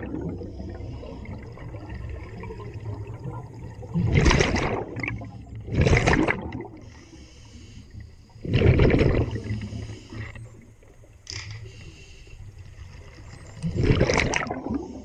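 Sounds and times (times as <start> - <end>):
regulator air bubbles gurgling: 0.0 - 7.1, 8.0 - 11.2, 12.6 - 15.0.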